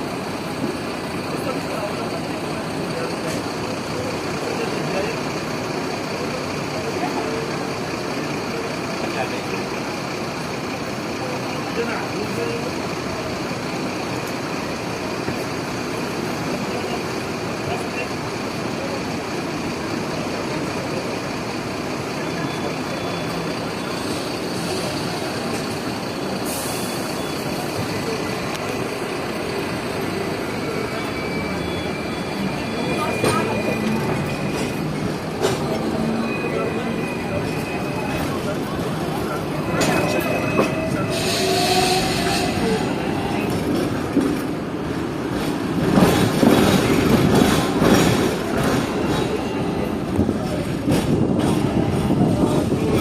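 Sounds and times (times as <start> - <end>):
tram running rumble: 0.0 - 53.0.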